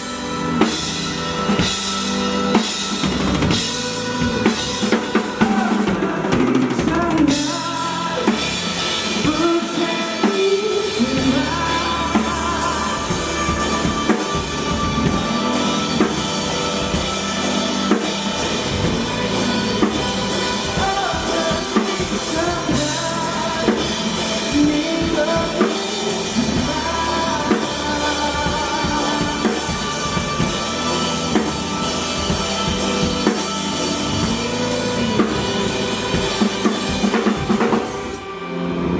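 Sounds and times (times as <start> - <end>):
drum kit beat: 0.0 - 38.8
band playing live: 0.0 - 38.9
person singing: 0.0 - 38.9.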